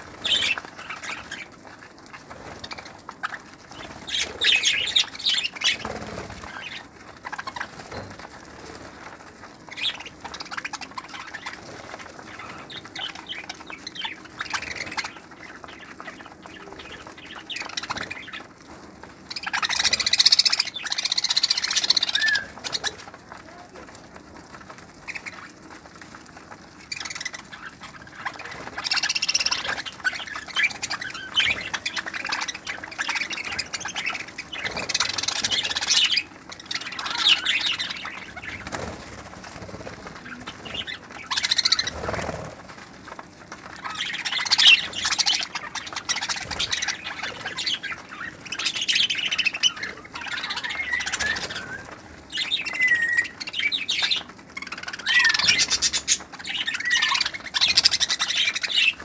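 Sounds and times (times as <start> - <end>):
budgerigars chirping and squawking: 0.0 - 24.0, 24.6 - 59.0.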